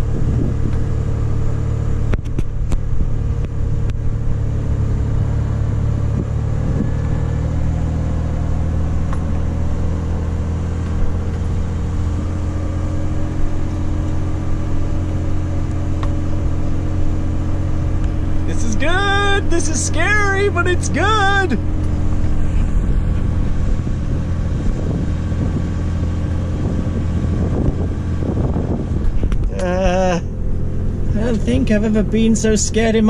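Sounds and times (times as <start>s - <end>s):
truck engine droning under load: 0.0s - 33.0s.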